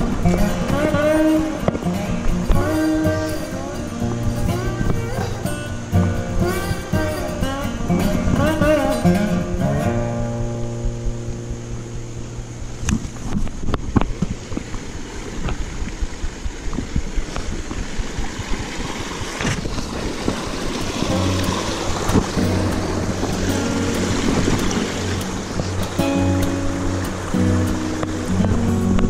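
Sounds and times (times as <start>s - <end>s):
creek rushing over rocks: 0.0s - 11.5s, 12.2s - 29.0s
acoustic guitar music: 0.0s - 15.8s, 19.4s - 29.0s
wind on microphone: 0.0s - 29.0s.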